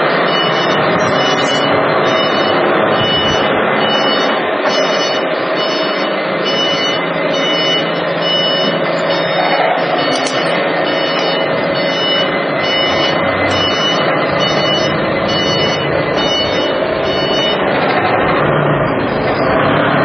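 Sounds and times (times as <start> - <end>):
forklift engine running: 0.0 - 20.0
reversing alarm beeping: 0.0 - 20.0.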